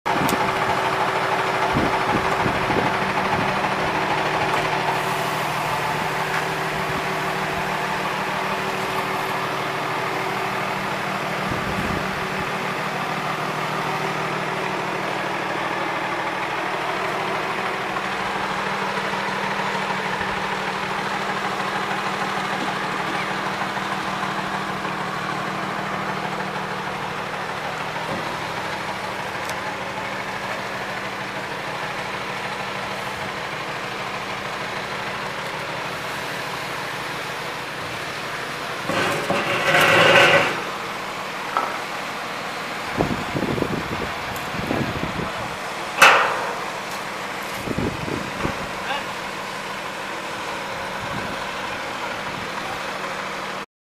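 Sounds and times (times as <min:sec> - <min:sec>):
engine idling: 0:00.0 - 0:53.6.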